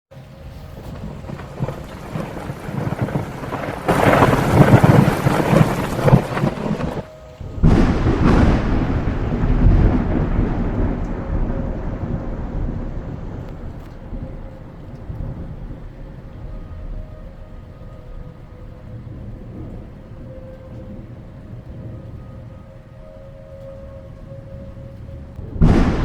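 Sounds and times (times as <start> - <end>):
thunder rumbling: 0.1 - 26.0
heavy rain falling: 0.2 - 23.6, 24.2 - 26.0.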